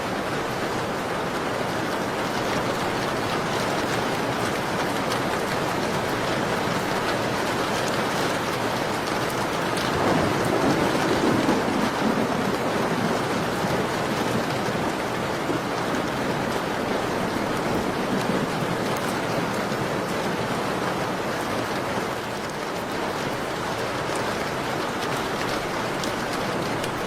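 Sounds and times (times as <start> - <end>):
dense rain falling: 0.0 - 27.0
wood fire crackling: 2.3 - 27.0.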